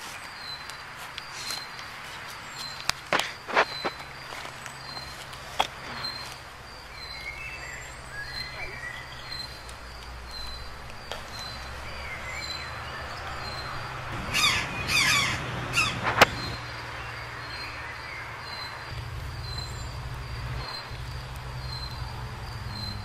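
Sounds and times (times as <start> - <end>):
forest birds calling: 0.0 - 23.0.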